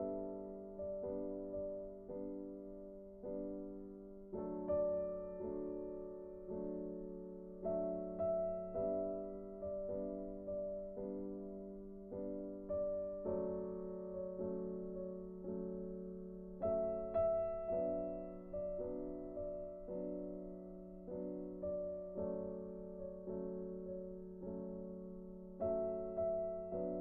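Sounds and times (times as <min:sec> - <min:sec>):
soft piano music: 0:00.0 - 0:27.0.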